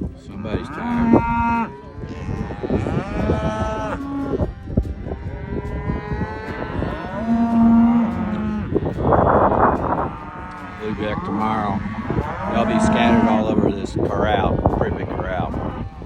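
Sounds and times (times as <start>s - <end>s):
cattle mooing and bawling: 0.0s - 16.0s.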